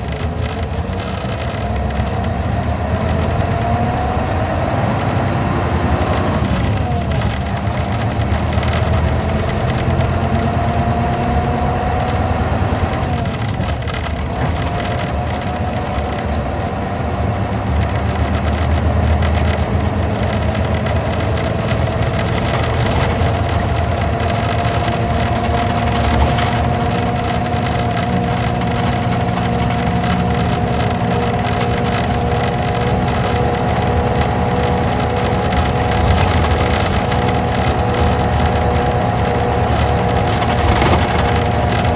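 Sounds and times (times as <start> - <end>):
bus engine rumble with whine: 0.0 - 41.9.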